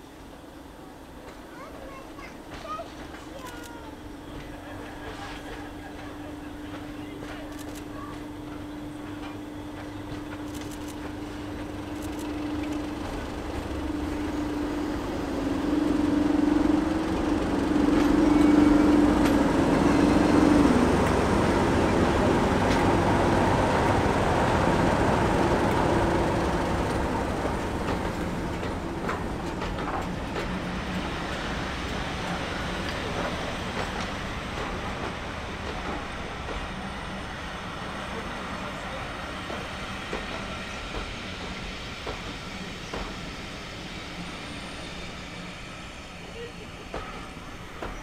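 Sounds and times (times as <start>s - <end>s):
diesel locomotive engine drone: 0.0s - 48.0s
train coaches rumbling past: 0.0s - 48.0s.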